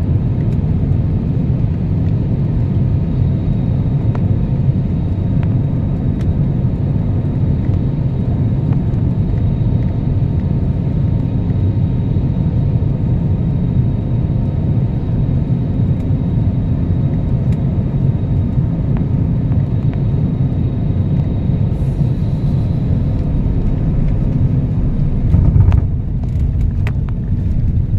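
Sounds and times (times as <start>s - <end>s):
aircraft engines rumbling in cabin: 0.0s - 27.9s.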